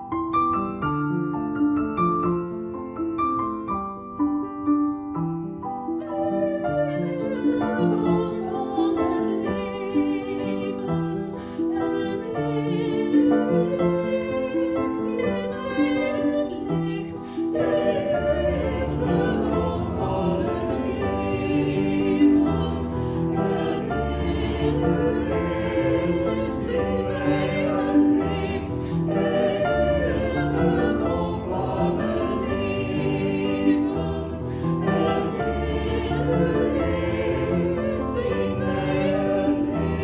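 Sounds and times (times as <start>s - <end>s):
instrumental accompaniment: 0.0s - 40.0s
choir singing sustained notes: 5.4s - 40.0s.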